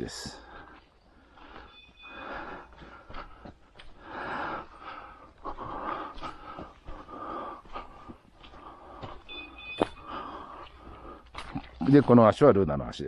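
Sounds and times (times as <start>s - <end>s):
heavy panting breaths: 0.0s - 11.6s
footsteps on muddy trail: 0.0s - 12.6s.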